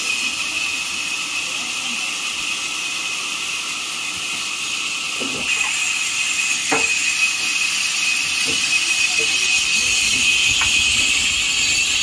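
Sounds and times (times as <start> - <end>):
sawmill machinery whine and hiss: 0.0 - 12.0.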